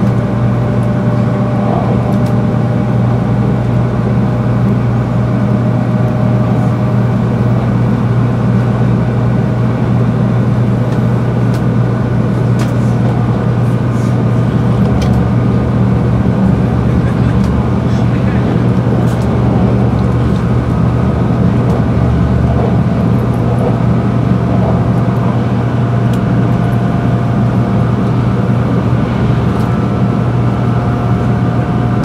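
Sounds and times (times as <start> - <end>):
train running drone: 0.0 - 32.0.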